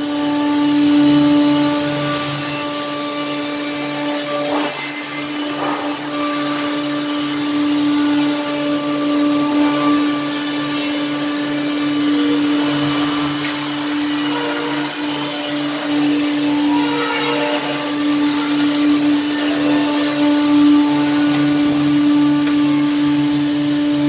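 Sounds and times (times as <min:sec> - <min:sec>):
woodworking saw cutting wood: 0:00.0 - 0:24.0.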